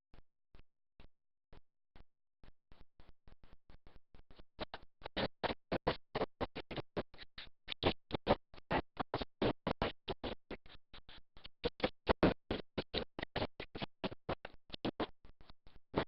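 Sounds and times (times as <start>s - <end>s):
rapid chopped noise bursts: 2.7s - 16.0s.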